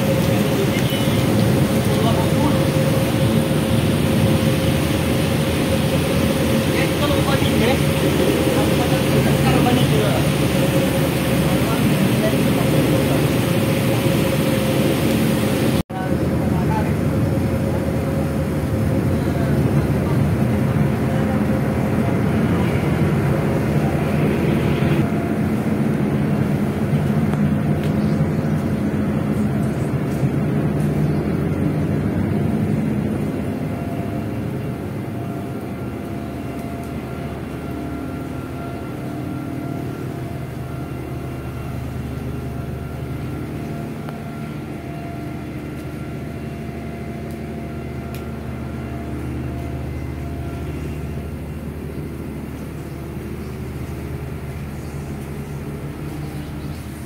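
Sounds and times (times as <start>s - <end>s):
ship engines droning: 0.0s - 57.0s.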